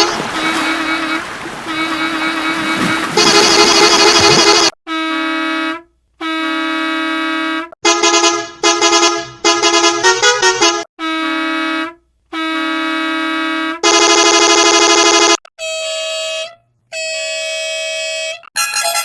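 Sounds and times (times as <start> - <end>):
pulsing horn blast: 0.0 - 16.5
stuttering horn honks: 0.0 - 18.4
bus horn blasts: 0.0 - 18.5.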